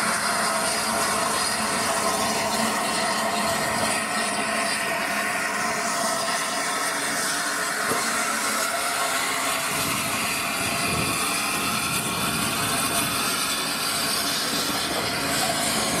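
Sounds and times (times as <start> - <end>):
steam hissing: 0.0 - 16.0
steam train passing: 0.0 - 16.0.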